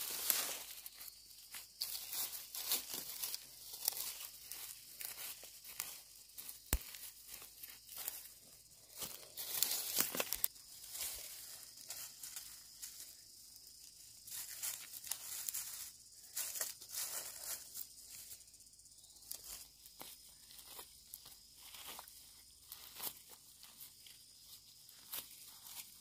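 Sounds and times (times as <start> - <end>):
rustling dry grass and soil: 0.0 - 26.0.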